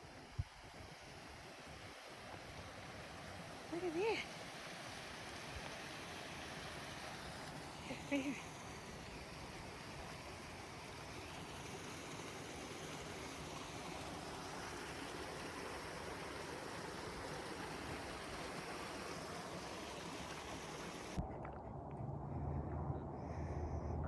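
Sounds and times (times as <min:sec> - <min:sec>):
waterfall rushing: 0:01.8 - 0:21.2.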